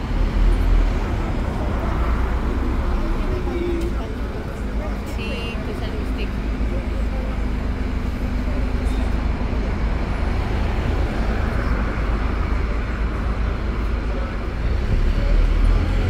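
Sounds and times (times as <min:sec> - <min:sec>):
bus engine rumble: 0:00.0 - 0:16.0
tyre and traffic noise: 0:00.0 - 0:16.0.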